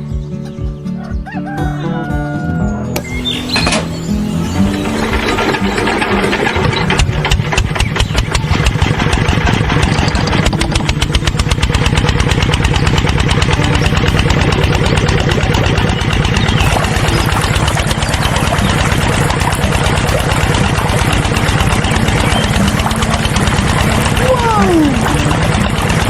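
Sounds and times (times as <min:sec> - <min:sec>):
small diesel pump engine running: 0:03.0 - 0:26.0.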